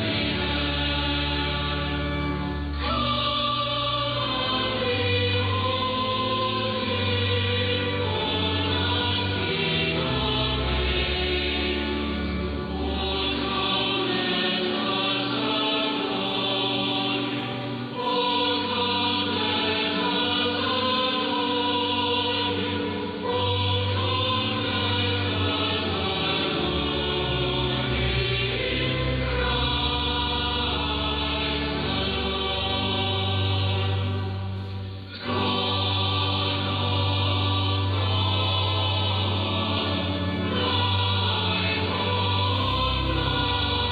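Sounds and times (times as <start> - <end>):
choir singing over am radio: 0.0 - 43.9.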